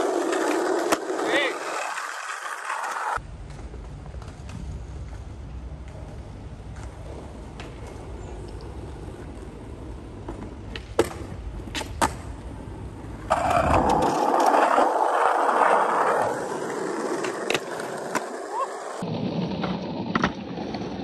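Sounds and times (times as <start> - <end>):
skateboard scraping: 0.0 - 21.0
skateboard wheels rolling on concrete: 0.0 - 21.0.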